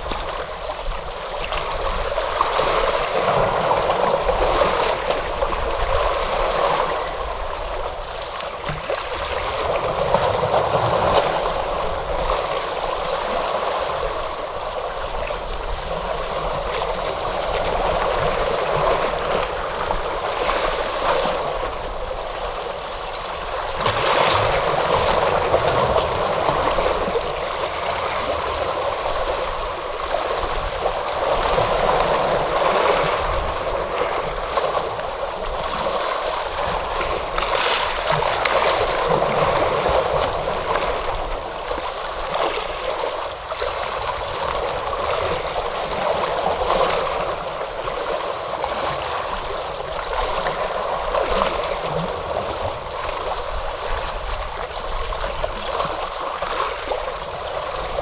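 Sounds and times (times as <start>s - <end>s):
ocean waves washing in: 0.0s - 58.0s.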